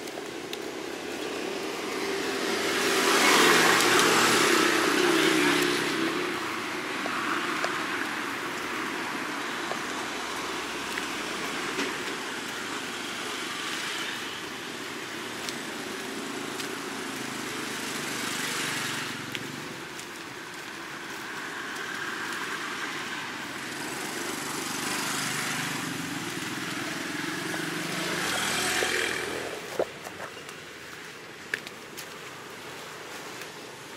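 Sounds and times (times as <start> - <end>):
engines humming: 0.0 - 31.4
tyres hissing on wet road: 0.0 - 33.9.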